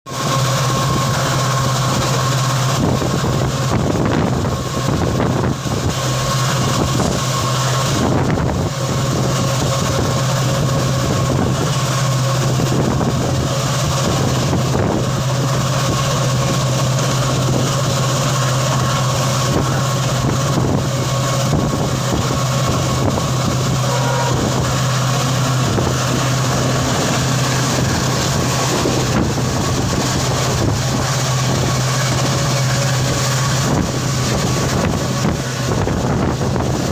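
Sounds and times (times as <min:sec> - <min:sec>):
diesel locomotive engine humming: 0:00.0 - 0:36.9
constant higher tone: 0:00.1 - 0:36.9.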